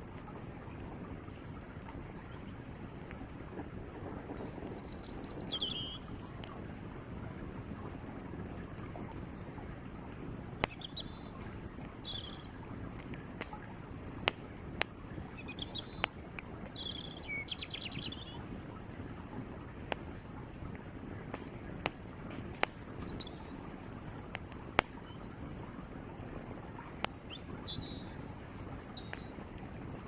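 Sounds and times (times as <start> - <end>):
creek flowing: 0.0 - 30.0
wood fire crackling: 0.0 - 30.0
small birds chirping: 0.5 - 19.5, 21.1 - 25.8, 26.8 - 30.0.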